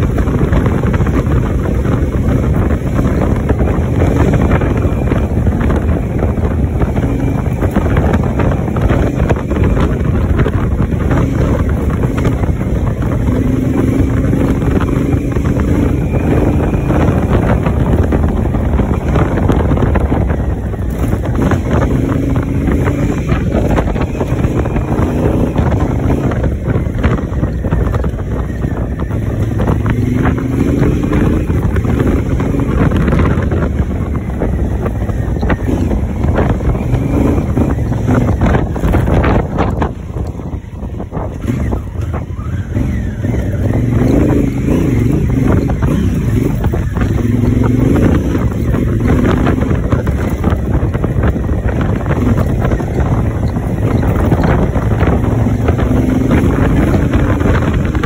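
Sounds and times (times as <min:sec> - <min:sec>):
bike rattles and knocks: 0:00.0 - 0:58.0
motorcycle engine running: 0:00.0 - 0:58.0
wind buffeting microphone: 0:00.0 - 0:58.0.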